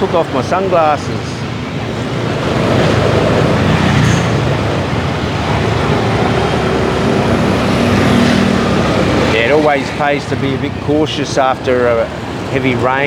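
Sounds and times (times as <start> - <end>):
motorbike engine: 0.0 - 13.0
road noise: 0.0 - 13.0.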